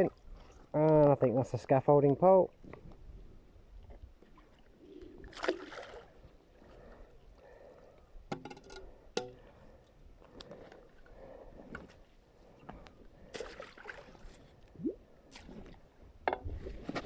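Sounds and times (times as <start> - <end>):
water splashing and sloshing: 0.0 - 7.7, 8.5 - 17.0.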